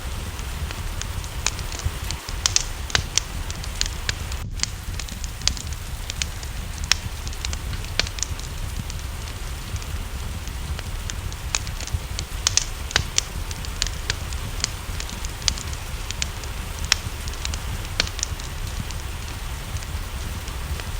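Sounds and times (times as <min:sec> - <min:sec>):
rain hiss: 0:00.0 - 0:20.9
steady low rumble: 0:00.0 - 0:20.9
wood fire crackling and popping: 0:00.0 - 0:20.9.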